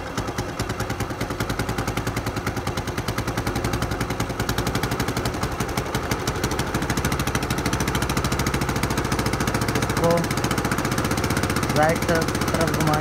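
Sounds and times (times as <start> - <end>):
small petrol engine idling: 0.0 - 13.0.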